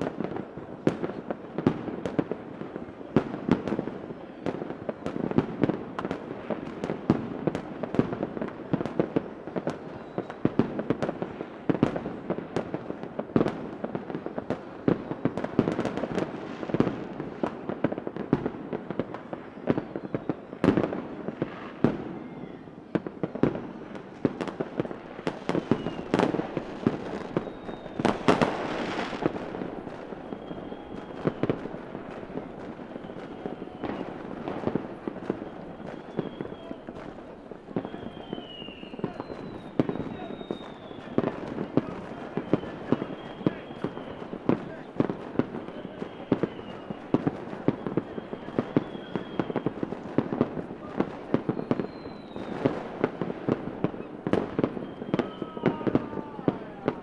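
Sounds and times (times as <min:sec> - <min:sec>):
fireworks bangs: 0:00.0 - 0:57.0
fireworks whistling: 0:00.0 - 0:57.0.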